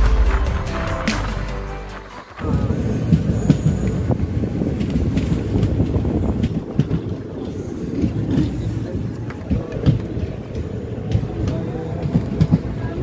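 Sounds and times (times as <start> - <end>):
train rumbling on track: 0.0 - 13.0
wheels knocking and clattering: 2.2 - 13.0.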